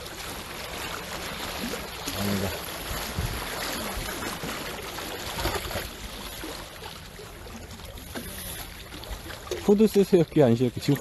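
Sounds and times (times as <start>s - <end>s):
waves lapping at shore: 0.0s - 11.0s.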